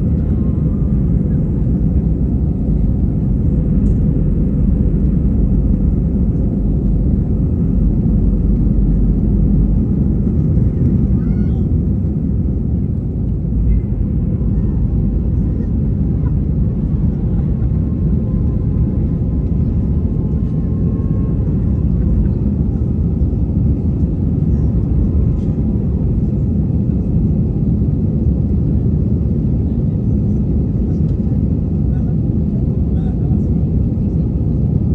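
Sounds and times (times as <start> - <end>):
jet engines and wheels rumbling: 0.0 - 34.9.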